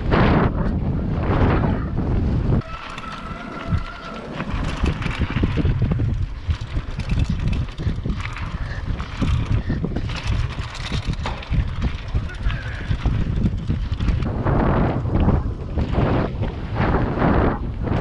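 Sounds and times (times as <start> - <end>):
bike rattling over rough gravel: 0.0 - 18.0
wind on microphone: 0.0 - 18.0.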